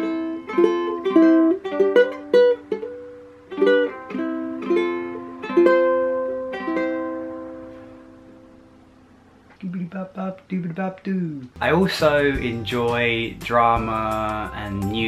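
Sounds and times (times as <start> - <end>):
ukulele strumming chords: 0.0 - 8.7, 11.6 - 15.0.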